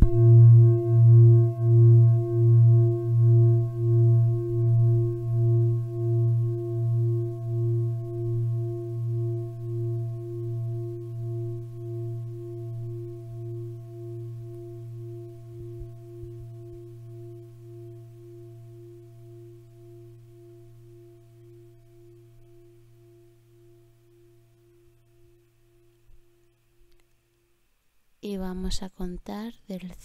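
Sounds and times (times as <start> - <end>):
singing bowl ringing: 0.0 - 26.8.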